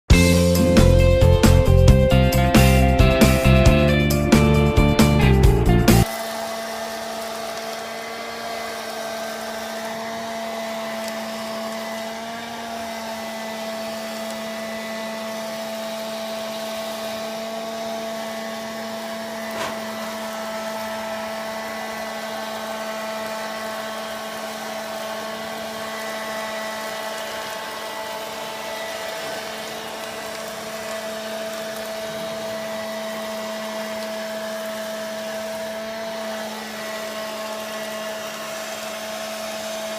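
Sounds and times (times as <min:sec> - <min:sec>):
small vacuum cleaner humming: 0:00.1 - 0:39.9.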